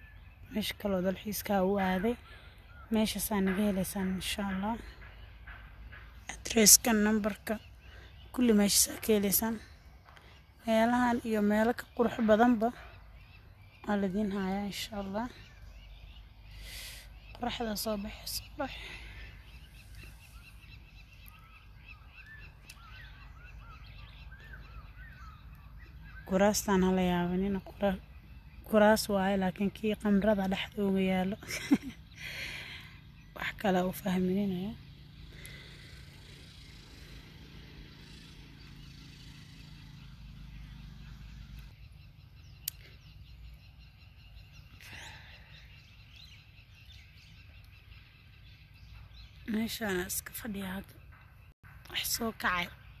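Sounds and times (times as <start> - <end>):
bird chirps: 0.0 - 53.0.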